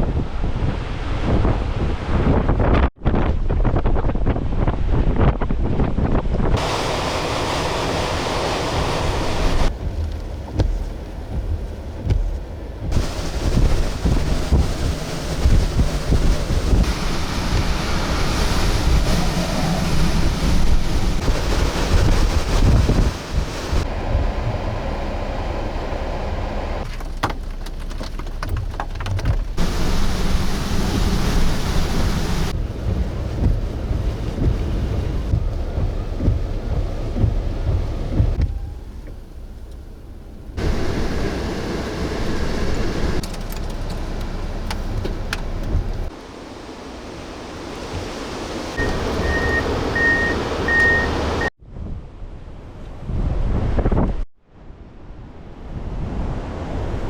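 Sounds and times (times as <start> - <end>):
wind buffeting microphone: 0.0 - 26.9, 28.4 - 54.2.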